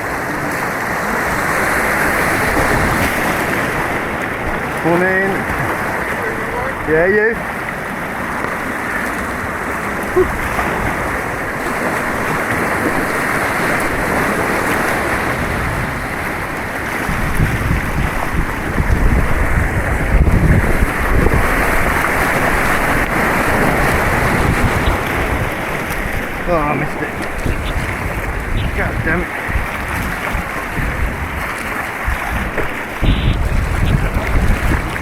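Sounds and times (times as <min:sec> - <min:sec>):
rushing white water: 0:00.0 - 0:35.0
wind buffeting microphone: 0:00.0 - 0:35.0.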